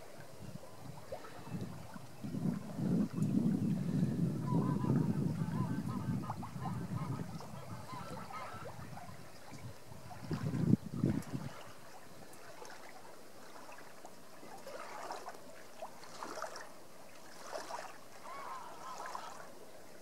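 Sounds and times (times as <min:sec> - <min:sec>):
water splashing along a hull: 0:00.0 - 0:20.0.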